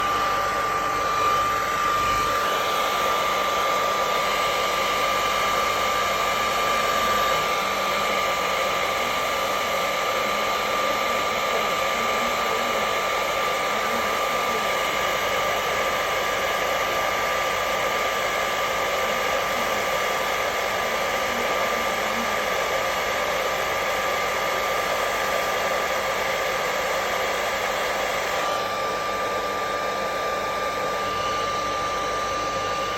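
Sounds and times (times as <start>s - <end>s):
hair dryer running: 0.0s - 32.9s.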